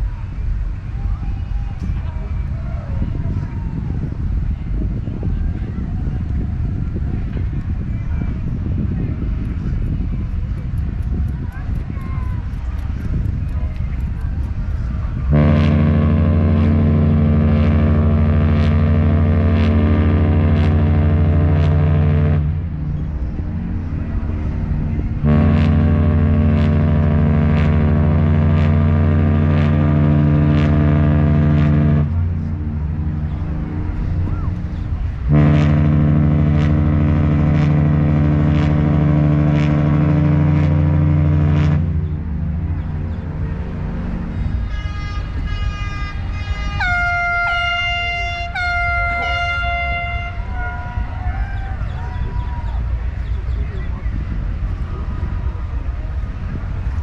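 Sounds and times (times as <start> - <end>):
low rumble: 0.0 - 57.0
ship's horn deep blast: 6.2 - 53.5.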